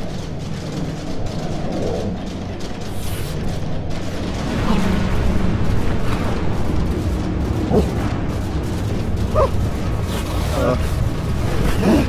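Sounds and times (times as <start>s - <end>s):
distorted bass-heavy rumbling: 0.0s - 12.0s.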